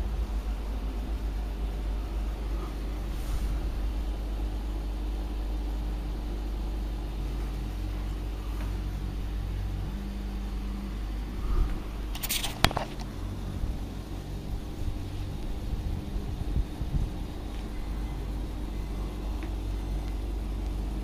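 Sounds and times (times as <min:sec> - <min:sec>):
aquarium pump humming: 0:00.0 - 0:21.0.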